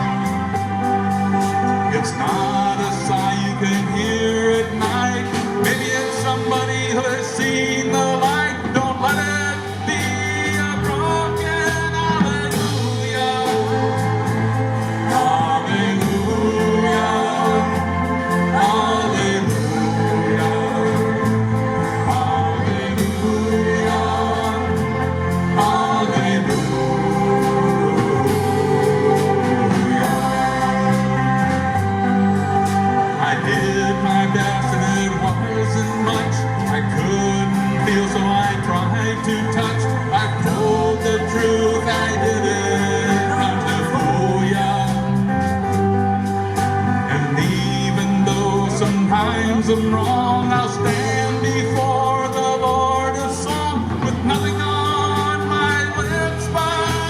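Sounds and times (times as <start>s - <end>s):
live band playing slow song: 0.0s - 57.0s
person singing: 0.0s - 57.0s.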